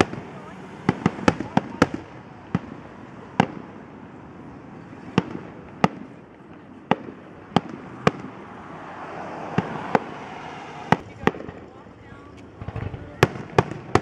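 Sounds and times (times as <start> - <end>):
fireworks bangs: 0.0 - 14.0
steady background noise: 0.0 - 14.0.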